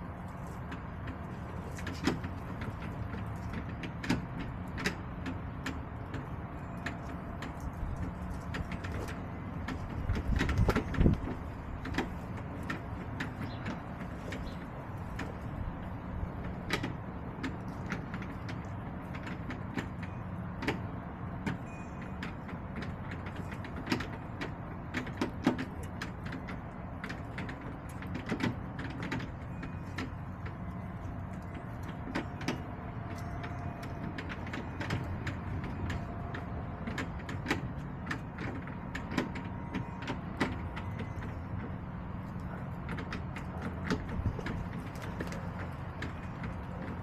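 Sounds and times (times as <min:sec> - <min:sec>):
hens pecking and scratching: 0:00.0 - 0:47.0.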